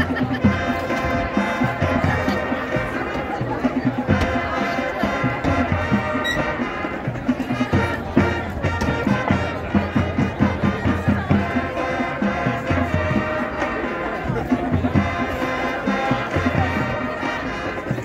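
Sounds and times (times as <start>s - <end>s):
drums beating: 0.0s - 18.0s
marching band playing: 0.0s - 18.0s.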